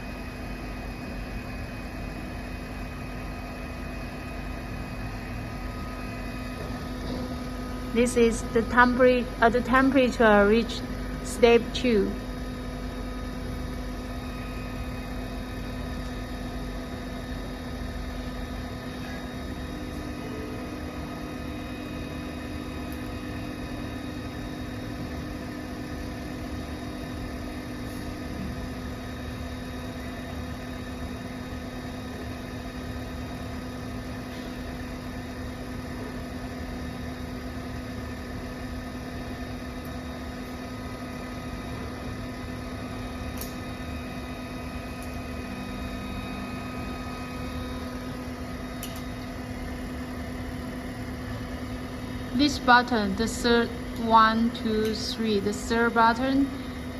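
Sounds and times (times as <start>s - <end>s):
hot-air blower and fans humming: 0.0s - 56.9s.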